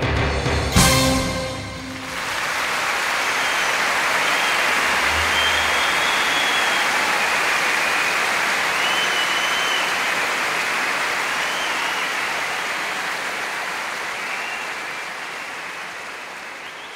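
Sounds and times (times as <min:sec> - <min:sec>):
crowd applauding: 0:00.8 - 0:16.9.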